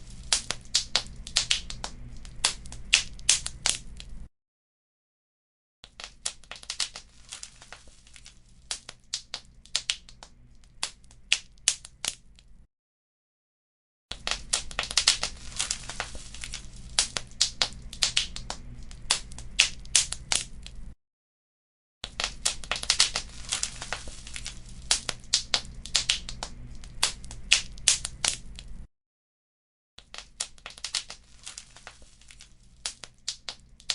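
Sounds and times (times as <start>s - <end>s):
wood fire crackling and popping: 0.0s - 4.3s, 5.9s - 12.6s, 14.1s - 21.0s, 22.0s - 28.9s, 30.0s - 33.9s.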